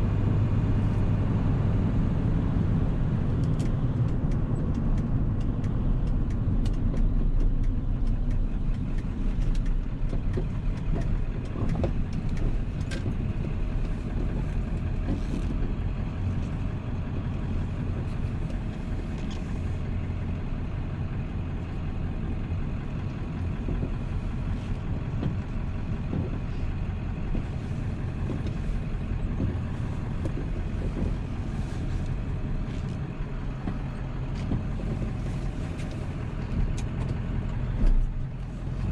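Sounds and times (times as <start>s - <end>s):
diesel truck engine running: 0.0s - 38.9s
road noise: 0.0s - 38.9s.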